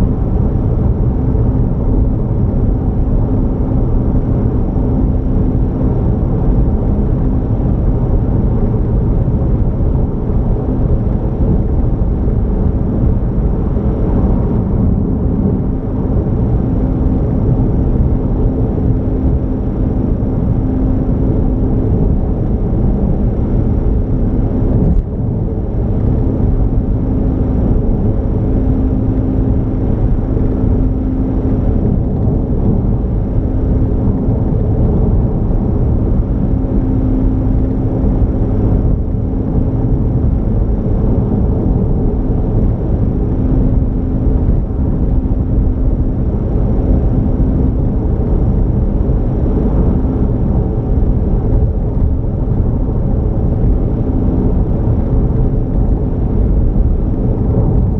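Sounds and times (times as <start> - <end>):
car engine and road noise: 0.0 - 57.9.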